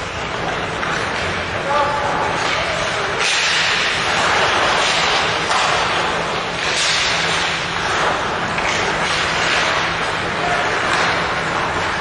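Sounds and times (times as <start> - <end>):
skates scraping on ice: 0.0 - 12.0.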